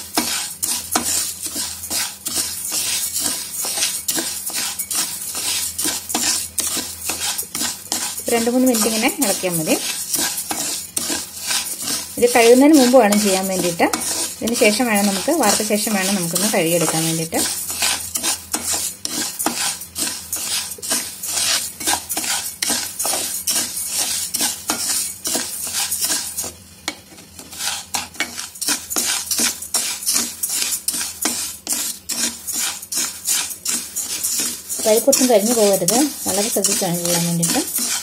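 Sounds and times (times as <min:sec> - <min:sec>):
spatula scraping grains in pan: 0:00.0 - 0:38.0.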